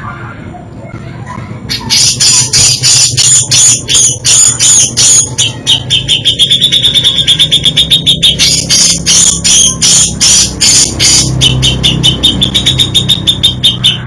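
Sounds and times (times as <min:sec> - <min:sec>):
bird singing sharp repeated notes: 0:01.7 - 0:14.0.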